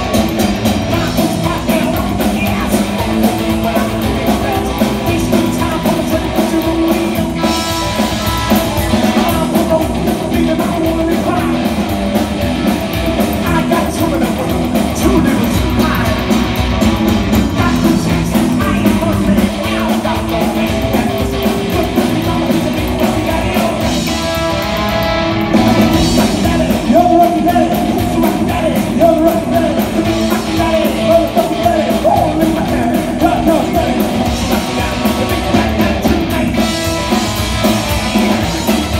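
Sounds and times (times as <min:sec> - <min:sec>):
person singing: 0:00.0 - 0:12.4, 0:13.2 - 0:24.5, 0:25.5 - 0:38.9
drum kit: 0:00.0 - 0:38.9
electric guitars: 0:00.0 - 0:38.9.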